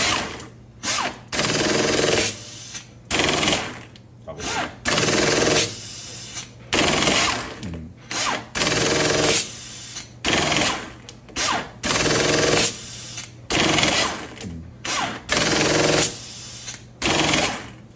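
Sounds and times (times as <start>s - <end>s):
pneumatic tool hammering rattle: 0.0s - 17.8s.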